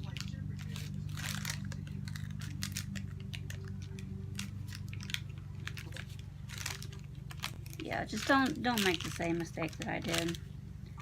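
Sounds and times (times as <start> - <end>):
wax paper peeling crackles: 0.0 - 10.6
steady low hum: 0.0 - 11.0.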